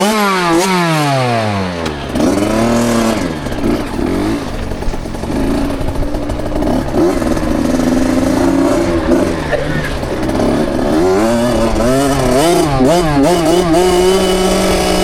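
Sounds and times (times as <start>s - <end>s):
two-stroke motocross engine: 0.0s - 15.0s.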